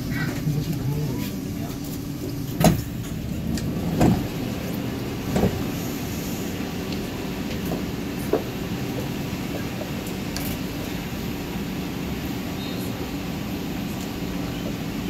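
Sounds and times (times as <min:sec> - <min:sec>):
train car hum: 0:00.0 - 0:15.0.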